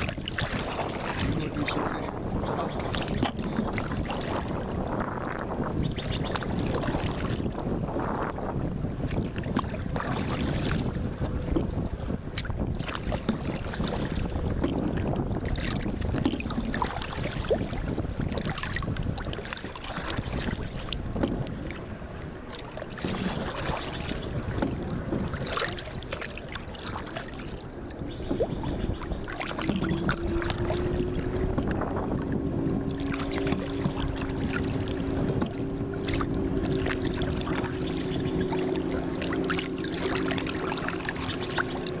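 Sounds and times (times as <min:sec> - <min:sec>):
paddle strokes: 0:00.0 - 0:05.1, 0:08.8 - 0:42.0
water splashing against boat: 0:00.0 - 0:42.0
wind on microphone: 0:00.0 - 0:42.0.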